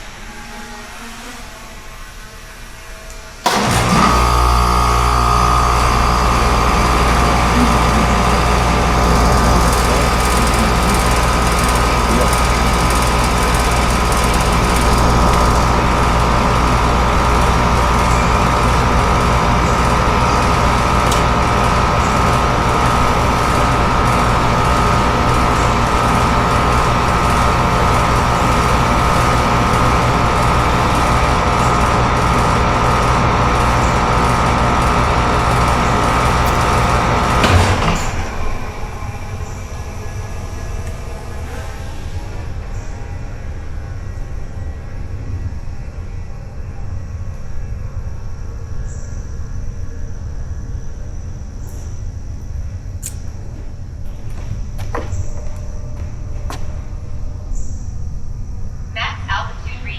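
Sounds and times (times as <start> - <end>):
drone propellers humming: 0.0 - 49.2.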